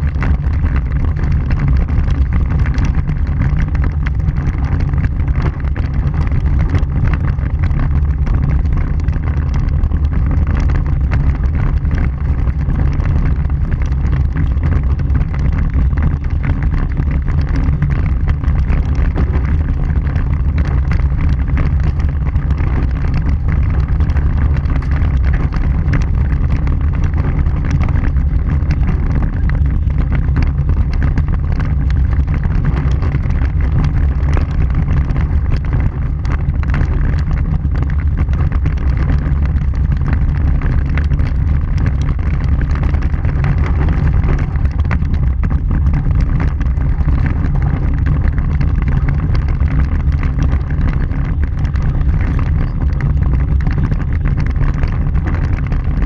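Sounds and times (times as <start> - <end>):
gravel ticks: 0.0 - 56.0
tyre and road rumble: 0.0 - 56.0
wind on microphone: 0.0 - 56.0.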